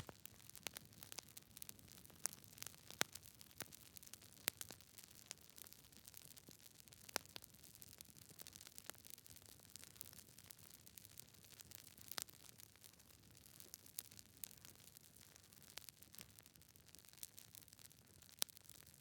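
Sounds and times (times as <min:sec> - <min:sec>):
faint steady hiss: 0:00.0 - 0:19.0
fire crackling: 0:00.0 - 0:19.0.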